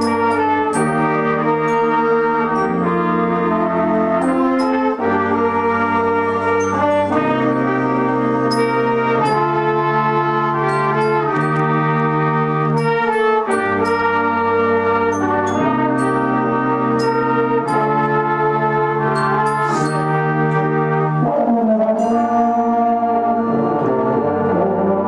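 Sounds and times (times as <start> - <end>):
brass band playing sustained chords: 0.0 - 25.0.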